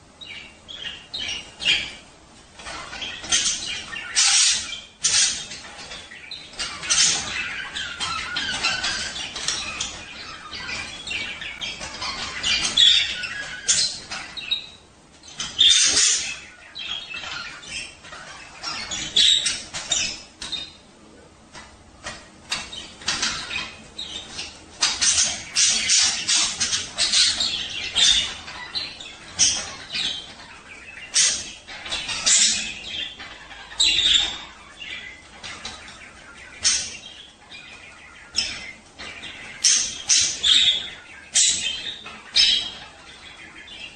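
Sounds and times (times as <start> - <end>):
budgerigars chattering: 0.1 - 43.9.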